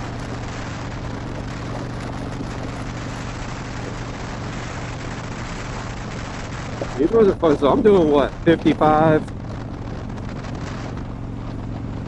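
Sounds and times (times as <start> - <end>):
motorcycle engine running: 0.0 - 12.0
wind rushing: 0.0 - 12.0.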